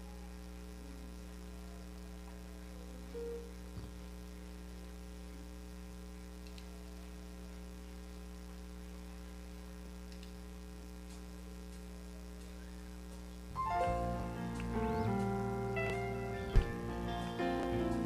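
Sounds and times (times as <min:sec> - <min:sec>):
low electrical mains hum: 0:00.0 - 0:18.0.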